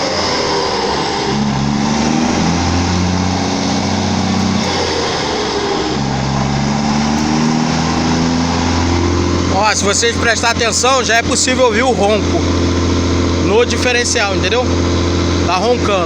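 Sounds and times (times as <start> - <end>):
differential drone: 0.0 - 16.0
truck diesel engine accelerating: 0.0 - 16.0.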